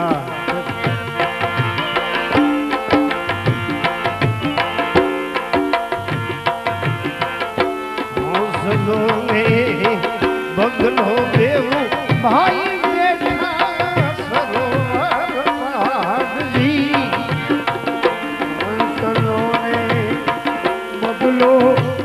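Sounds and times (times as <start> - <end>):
sustained instrumental tones: 0.0 - 22.0
tabla playing a steady beat: 0.0 - 22.0.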